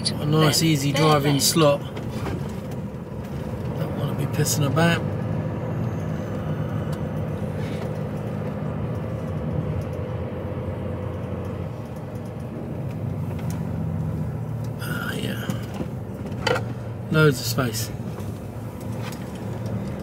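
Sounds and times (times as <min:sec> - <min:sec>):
diesel engine low drone: 0:00.0 - 0:20.0.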